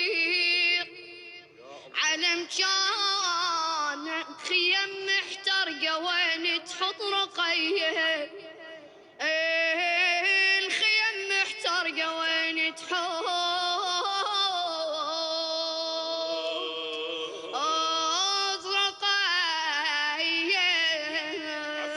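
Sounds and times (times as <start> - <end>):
person singing a lament: 0.0 - 21.9.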